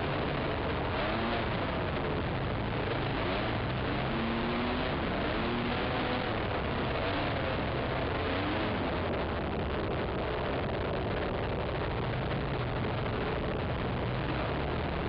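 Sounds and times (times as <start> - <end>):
quad engine revving: 0.0 - 15.0
steady rushing noise: 0.0 - 15.0.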